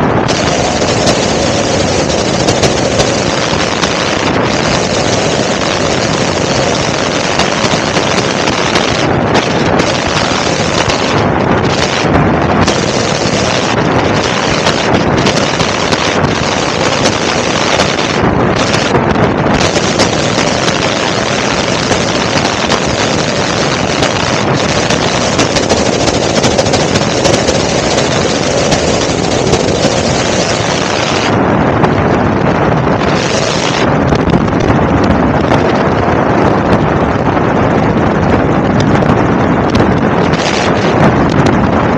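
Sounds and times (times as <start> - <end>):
helicopter engine and rotor: 0.0 - 41.9
wind buffeting microphone: 0.0 - 41.9.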